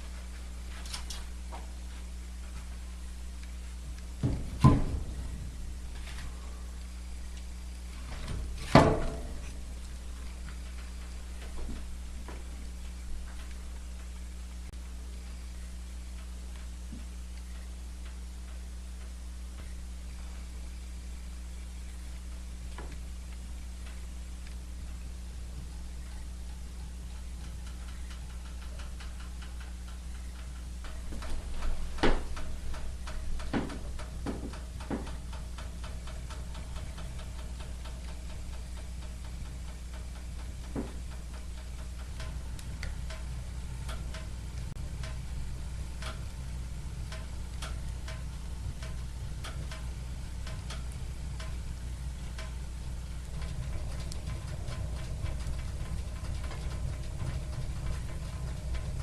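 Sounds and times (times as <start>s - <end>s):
steady low hum: 0.0s - 59.0s
steady low rumble: 0.0s - 59.0s
wood fire crackling: 0.0s - 59.0s.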